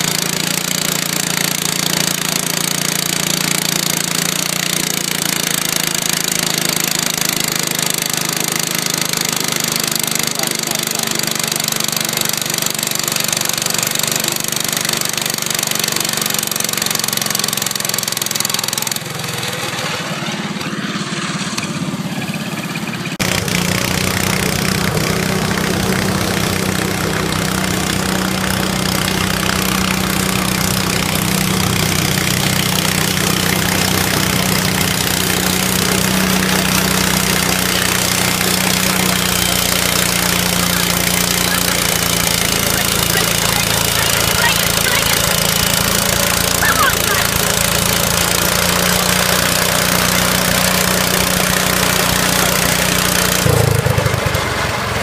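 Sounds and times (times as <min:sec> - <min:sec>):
tractor engine running under load: 0:00.0 - 0:55.0.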